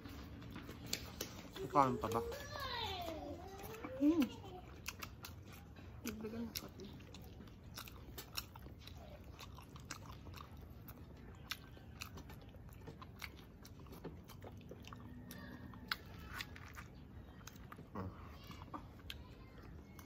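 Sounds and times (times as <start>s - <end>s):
chewing and crunching: 0.0s - 20.0s.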